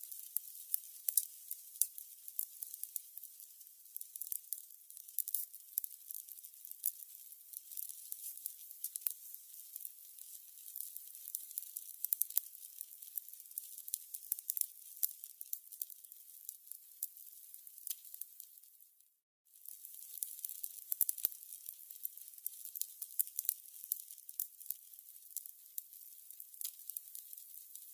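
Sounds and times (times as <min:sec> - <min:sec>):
candles crackling and popping: 0:00.0 - 0:27.9.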